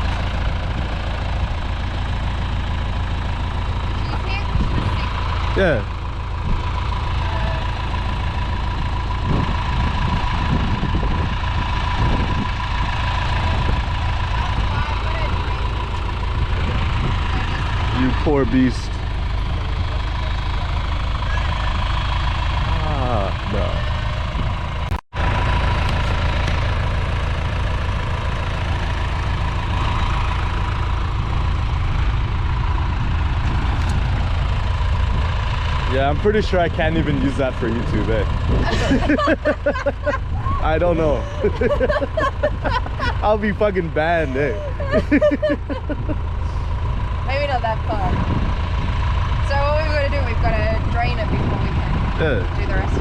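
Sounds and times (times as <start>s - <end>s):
forklift engine idling: 0.0s - 53.0s.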